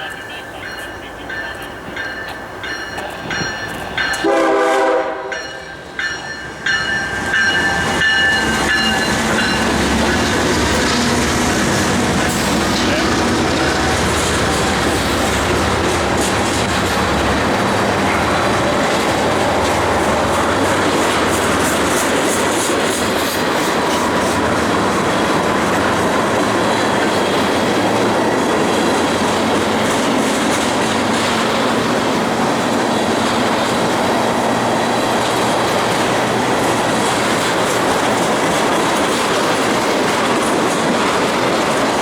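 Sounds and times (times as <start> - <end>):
freight train rumbling past: 0.0 - 42.0
wheels clattering over rails: 6.8 - 42.0.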